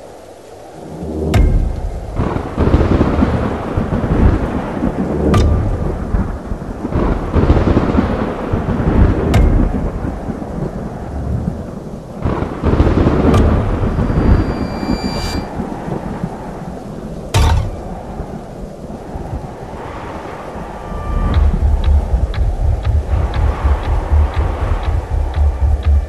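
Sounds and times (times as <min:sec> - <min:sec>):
heavy rain: 0:00.0 - 0:26.0
rolling thunder: 0:00.0 - 0:26.0
sharp thunder crack: 0:00.8 - 0:18.5, 0:20.9 - 0:26.0.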